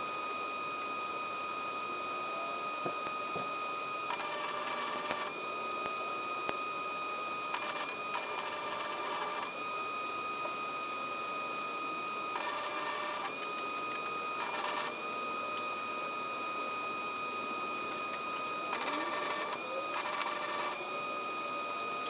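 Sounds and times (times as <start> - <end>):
welder high whine: 0.0 - 22.0.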